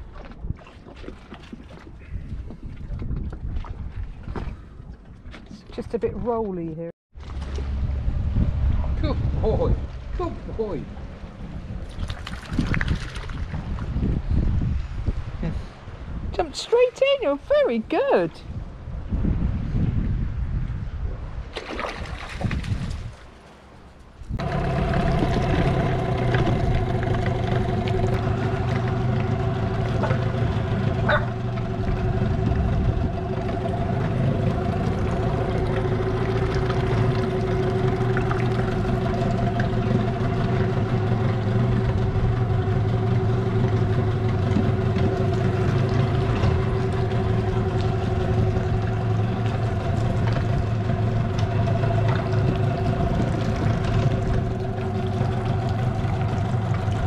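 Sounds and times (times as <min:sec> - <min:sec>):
boat engine running steadily: 0:00.0 - 0:20.3, 0:24.2 - 0:57.0.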